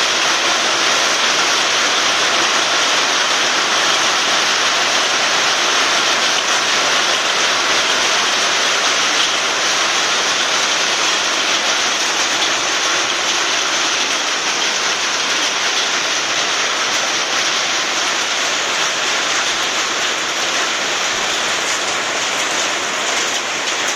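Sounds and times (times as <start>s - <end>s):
heavy rain and hail: 0.0s - 23.9s.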